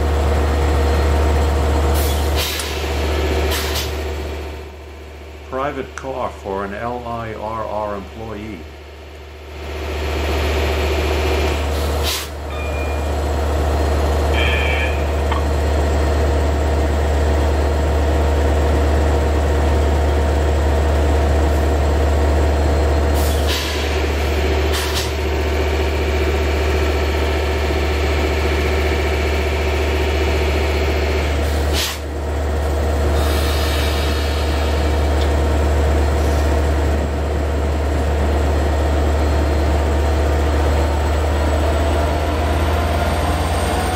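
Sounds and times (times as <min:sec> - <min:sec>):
locomotive engine humming: 0:00.0 - 0:43.9.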